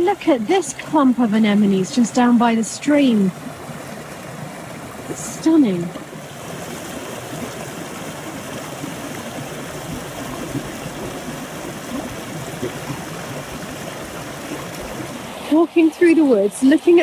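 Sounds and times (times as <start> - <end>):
stream splashing over rocks: 0.0 - 17.0.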